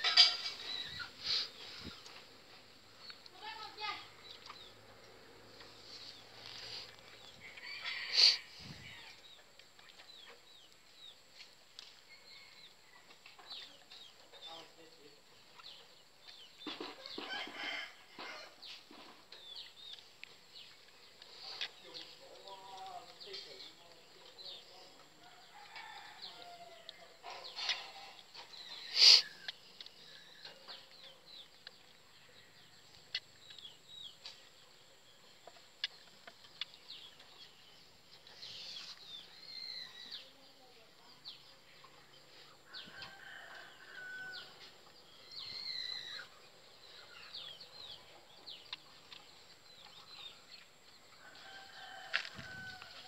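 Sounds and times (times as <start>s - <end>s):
birds chirping and clucking: 0.0s - 53.0s.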